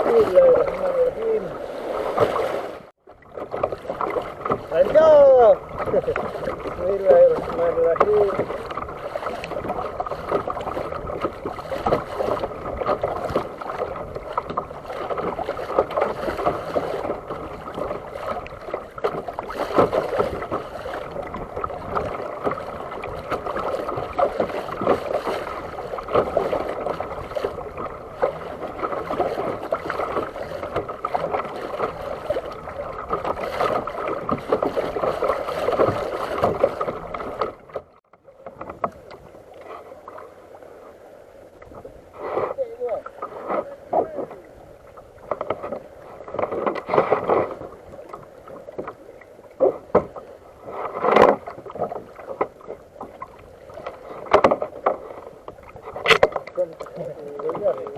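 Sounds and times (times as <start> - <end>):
water splashing against a kayak: 0.0 - 57.9.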